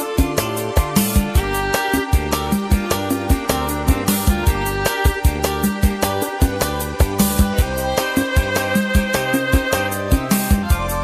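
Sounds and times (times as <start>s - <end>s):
instrumental song backing track: 0.0s - 11.0s
steady drum beat: 0.0s - 11.0s.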